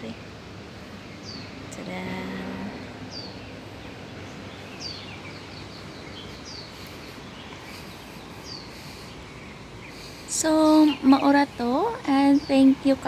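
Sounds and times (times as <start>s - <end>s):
steady background hiss: 0.0s - 13.0s
soft bird twittering: 0.9s - 13.0s.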